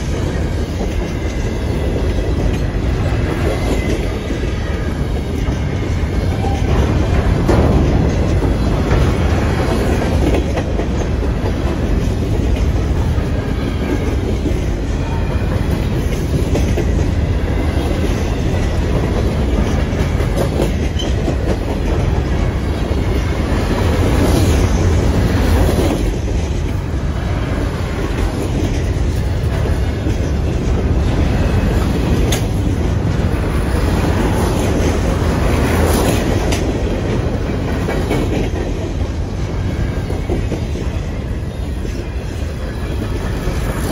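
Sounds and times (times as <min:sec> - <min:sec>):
clickety-clack over rail joints: 0:00.0 - 0:43.9
freight train wheels rumbling on rail: 0:00.0 - 0:43.9.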